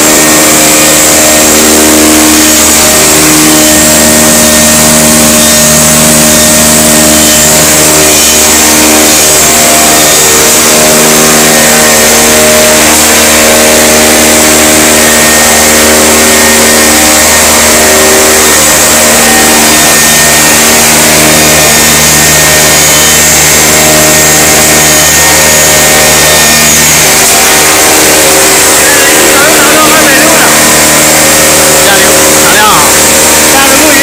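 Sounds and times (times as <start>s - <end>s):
grinding mill whirring: 0.0s - 34.0s
steady hum tones: 0.0s - 34.0s.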